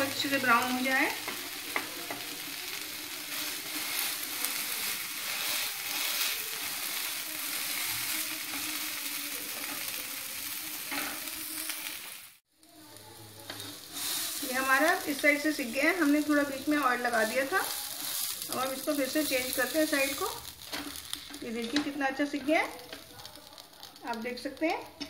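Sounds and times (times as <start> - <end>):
pancake sizzling in oil: 0.0 - 25.0.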